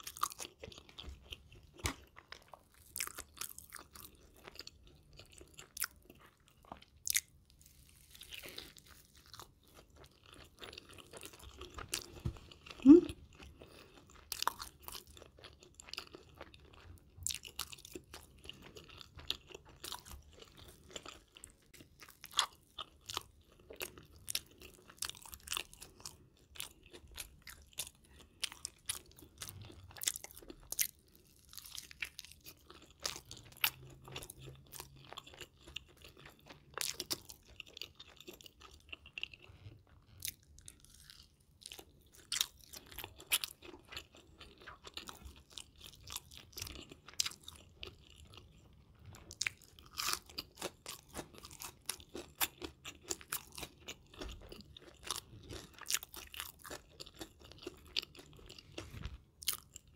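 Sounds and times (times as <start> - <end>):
chewing and crunching burger: 0.0 - 59.9.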